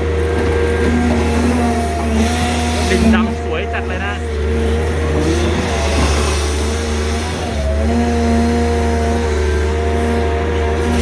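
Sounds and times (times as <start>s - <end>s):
excavator diesel engines working: 0.0s - 11.0s.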